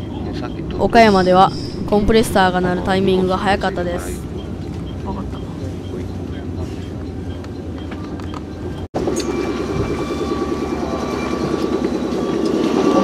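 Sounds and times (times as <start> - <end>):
stopped train humming: 0.0 - 13.0
train rumble: 0.0 - 13.0.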